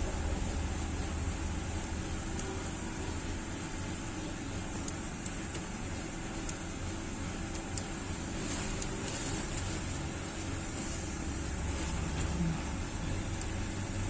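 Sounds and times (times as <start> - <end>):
machine hum and hiss: 0.0 - 14.0.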